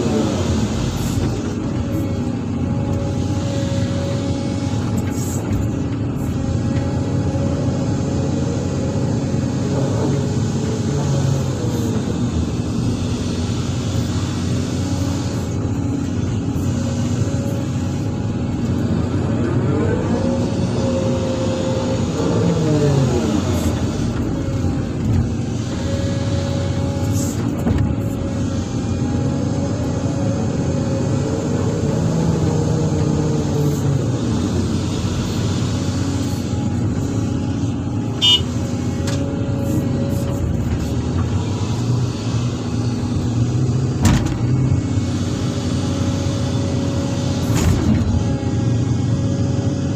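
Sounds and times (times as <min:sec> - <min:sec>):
excavator diesel engine: 0:00.0 - 0:49.9.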